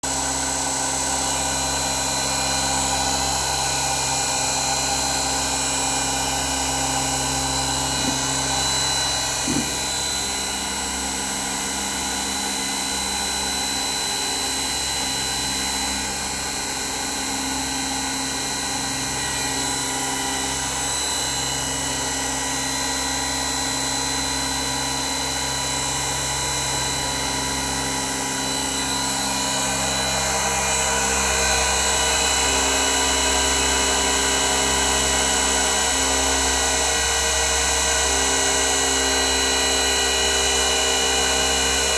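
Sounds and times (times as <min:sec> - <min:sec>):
milling machine spindle whine: 0:00.1 - 0:41.9.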